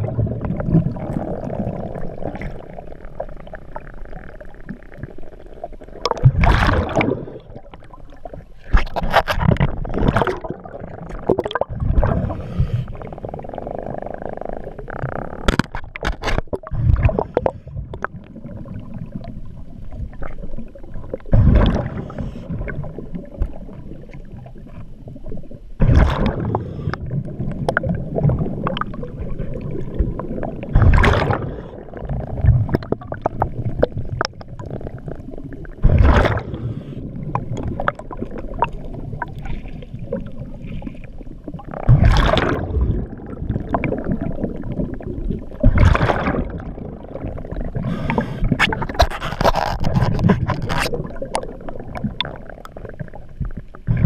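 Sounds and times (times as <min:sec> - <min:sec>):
exhaled bubbles gurgling underwater: 0:00.0 - 0:54.0.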